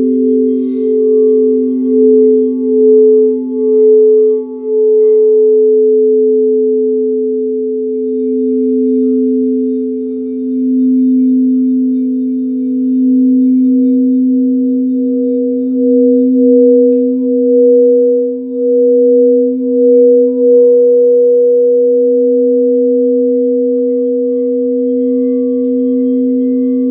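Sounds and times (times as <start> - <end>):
high singing bowl tone: 0.0 - 26.9
low singing bowl tone: 0.0 - 26.9.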